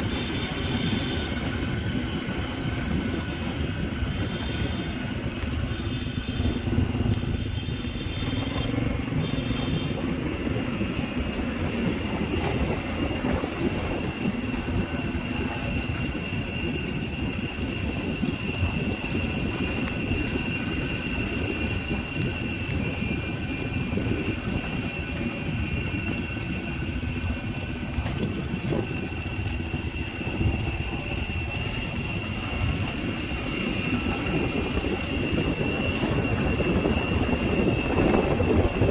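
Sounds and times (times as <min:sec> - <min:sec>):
wind buffeting microphone: 0:00.0 - 0:38.9
motorbike rumbling: 0:02.2 - 0:38.9.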